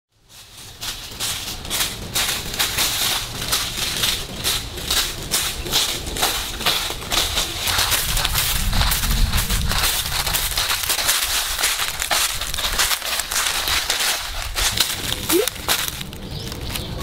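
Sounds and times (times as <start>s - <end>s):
footsteps crunching through dry leaves: 0.1s - 17.0s.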